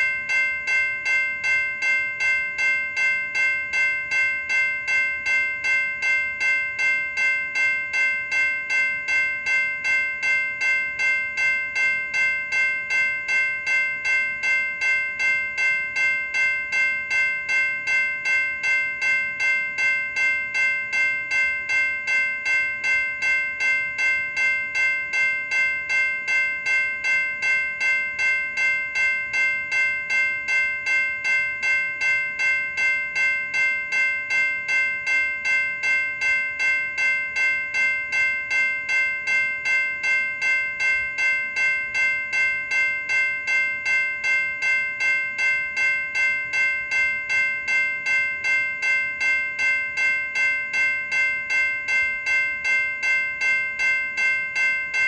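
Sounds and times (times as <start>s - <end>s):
electronic crossing bell ringing: 0.0s - 55.0s.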